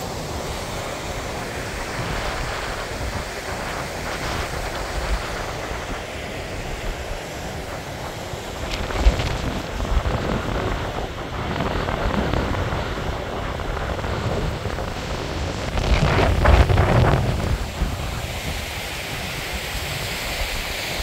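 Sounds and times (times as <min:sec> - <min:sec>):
stream rushing over rocks: 0:00.0 - 0:21.0
wind buffeting microphone: 0:00.0 - 0:21.0.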